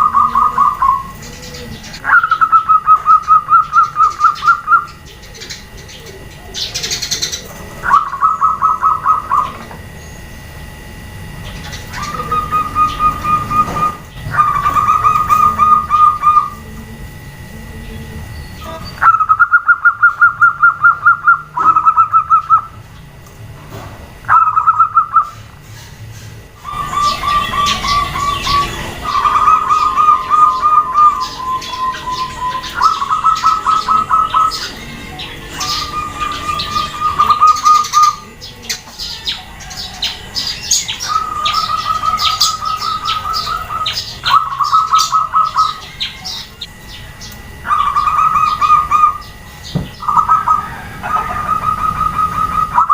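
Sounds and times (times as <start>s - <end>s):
doves cooing: 0.0s - 52.9s.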